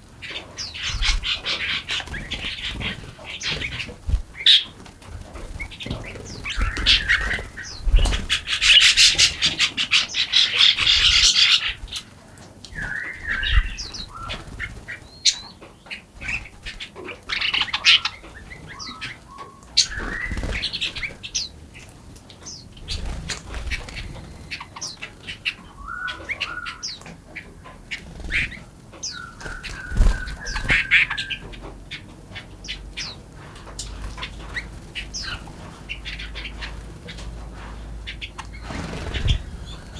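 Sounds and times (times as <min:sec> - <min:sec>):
songbirds chirping: 0:00.0 - 0:39.9
fast bird chattering: 0:00.2 - 0:39.9.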